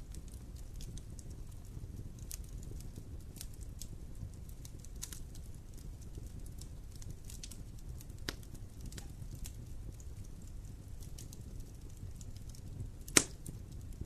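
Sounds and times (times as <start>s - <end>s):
campfire pops and crackles: 0.0s - 14.0s
flames rumbling: 0.0s - 14.0s.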